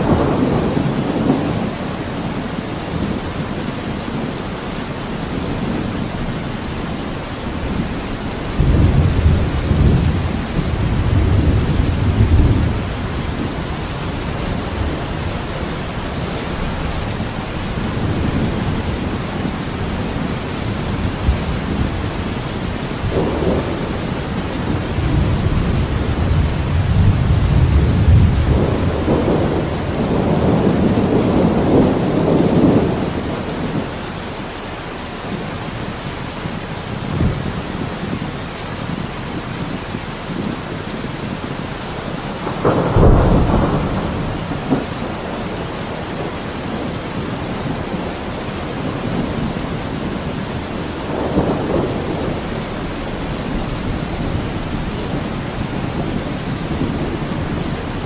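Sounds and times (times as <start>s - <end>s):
rolling thunder: 0.0s - 34.0s, 41.3s - 58.0s
heavy rain: 0.0s - 58.0s.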